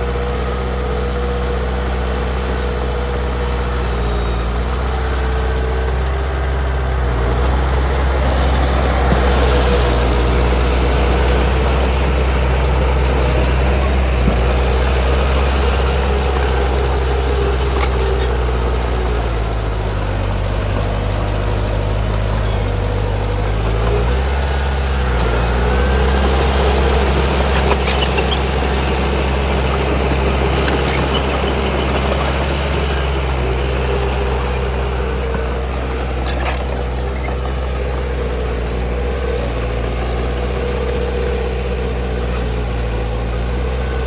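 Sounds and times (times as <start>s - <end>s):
diesel engine running under load: 0.0s - 44.0s.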